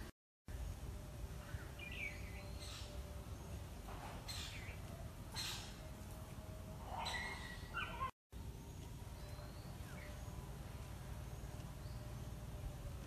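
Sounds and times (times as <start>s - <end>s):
birds chirping: 1.4s - 13.0s.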